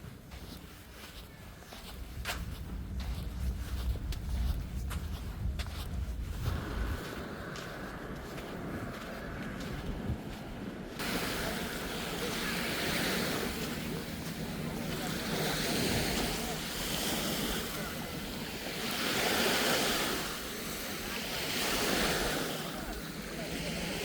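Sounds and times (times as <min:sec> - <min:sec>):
ocean waves breaking on beach: 0:02.5 - 0:24.0.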